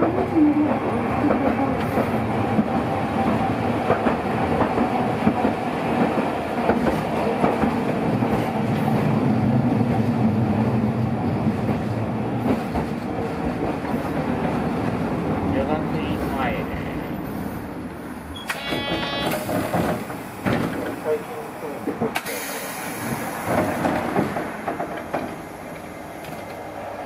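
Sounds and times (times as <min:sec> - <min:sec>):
tram wheels rumbling on rail: 0:00.0 - 0:27.0.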